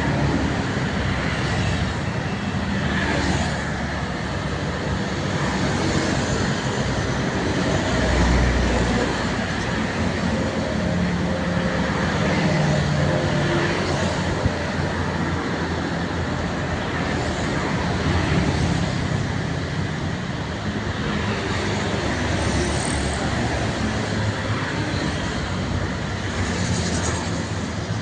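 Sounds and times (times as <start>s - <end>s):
trucks passing: 0.0s - 28.0s.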